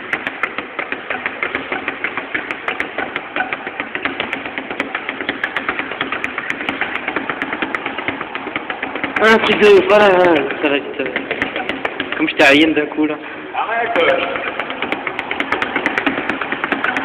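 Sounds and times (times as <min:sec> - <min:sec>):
punching ball rapid knocks: 0:00.0 - 0:13.2, 0:13.8 - 0:17.0.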